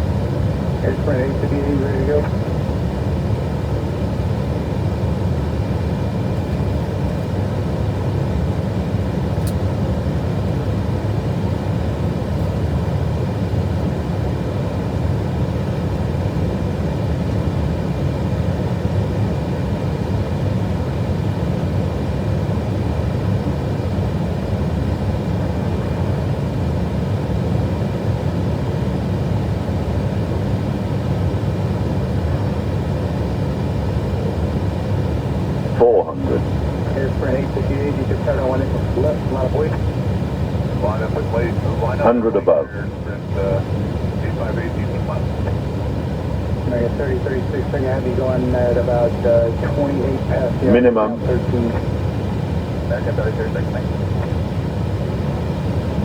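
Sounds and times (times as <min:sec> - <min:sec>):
cockpit airflow and engine noise: 0:00.0 - 0:56.0.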